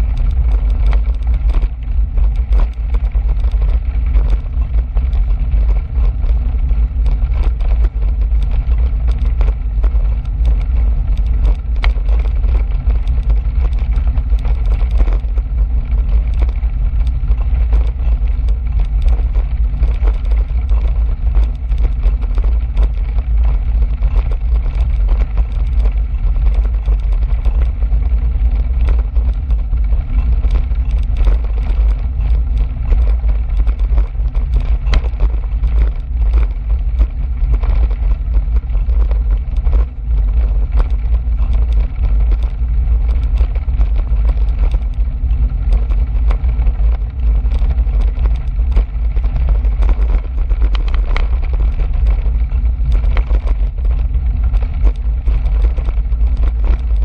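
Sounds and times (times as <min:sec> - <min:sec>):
bicycle clicks and rattles: 0:00.0 - 0:57.0
wind and road rumble: 0:00.0 - 0:57.0.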